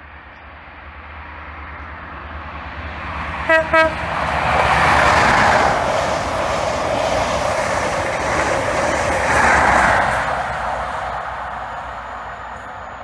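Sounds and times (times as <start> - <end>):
train wheels on rails: 0.2 - 13.0.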